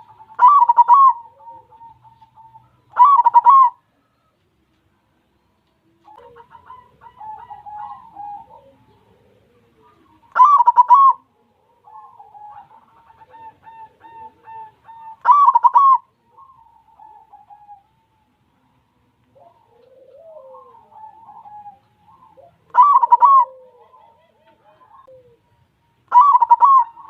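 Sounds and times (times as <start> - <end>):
dove cooing: 0.0 - 4.4, 5.8 - 27.0.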